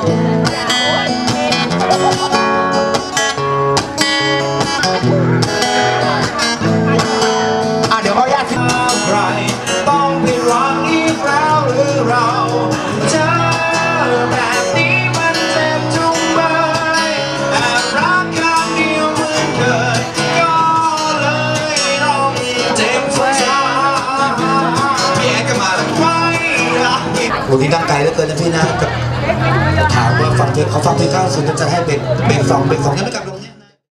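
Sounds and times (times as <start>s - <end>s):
guitar: 0.0s - 33.8s.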